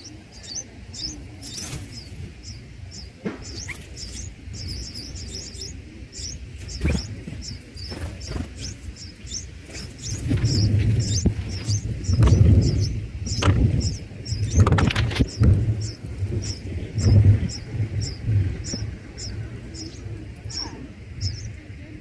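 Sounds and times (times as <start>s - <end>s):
nestlings chirping: 0.0s - 22.0s
low rumble: 0.3s - 22.0s.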